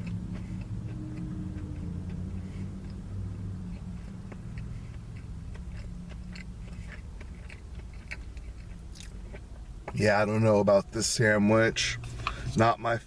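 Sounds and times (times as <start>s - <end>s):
person chewing crispy food: 0.0s - 11.2s
steady low hum: 0.0s - 13.0s.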